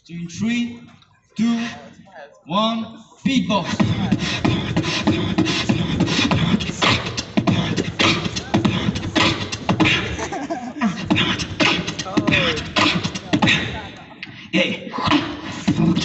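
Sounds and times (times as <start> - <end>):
beatboxing into microphone: 0.0 - 2.1, 3.2 - 16.0.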